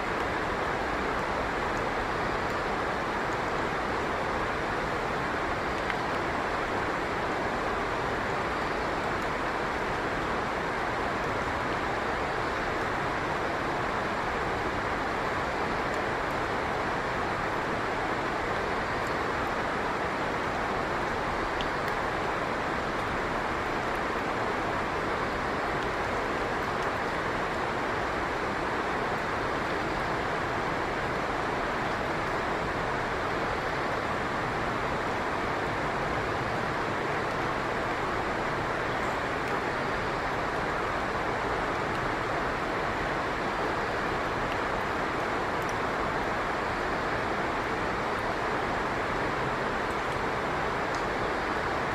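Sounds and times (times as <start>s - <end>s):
rushing water: 0.0s - 51.9s.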